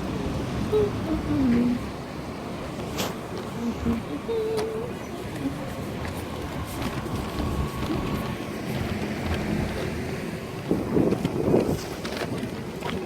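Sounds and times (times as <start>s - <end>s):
low rumble of engines: 0.0s - 13.0s
wind buffeting microphone: 0.0s - 13.0s.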